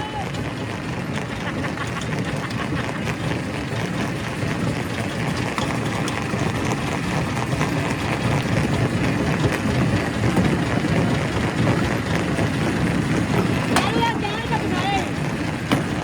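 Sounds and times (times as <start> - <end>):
rock crusher running: 0.0 - 16.0.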